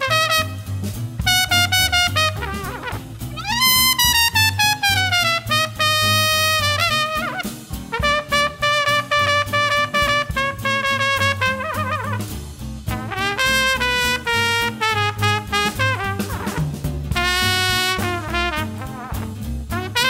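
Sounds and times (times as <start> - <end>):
big band horn line: 0.0 - 20.0
drum strokes: 0.0 - 20.0
steady bass line: 0.0 - 20.0.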